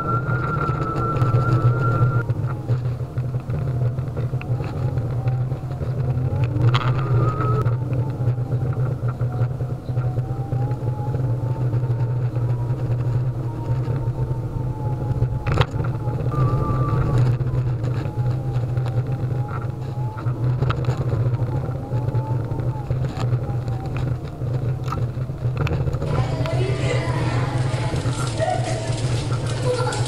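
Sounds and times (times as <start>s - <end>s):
electric unicycle rumble and whine: 0.0s - 30.0s.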